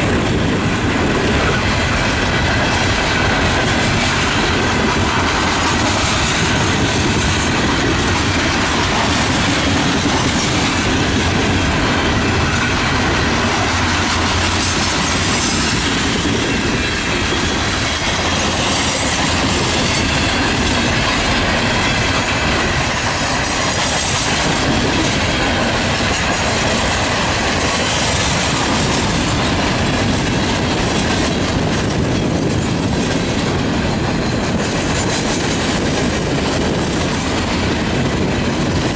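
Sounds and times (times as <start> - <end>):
train wheels rolling over rails: 0.0 - 38.9.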